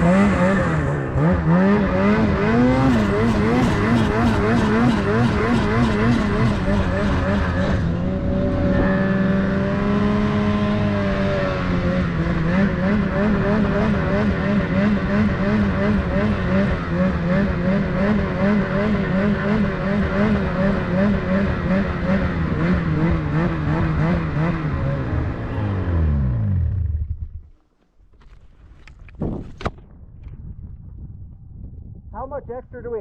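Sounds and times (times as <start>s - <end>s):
snowmobile engine running: 0.0s - 27.7s.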